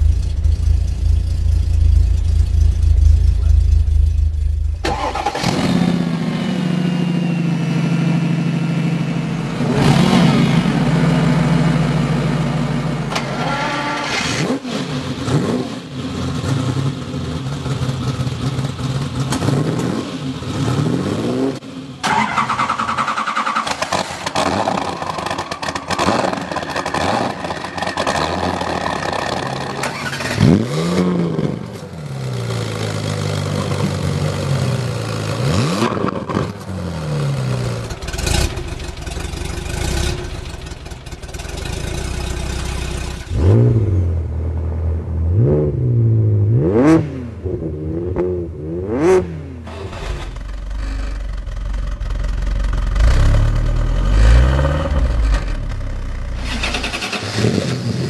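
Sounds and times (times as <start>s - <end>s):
sports car engines revving: 0.0s - 58.0s.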